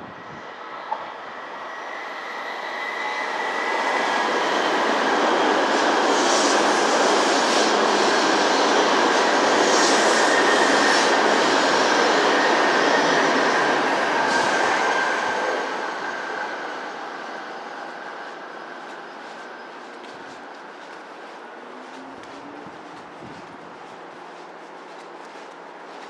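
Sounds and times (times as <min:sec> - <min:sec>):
train rushing past: 0:00.0 - 0:26.0.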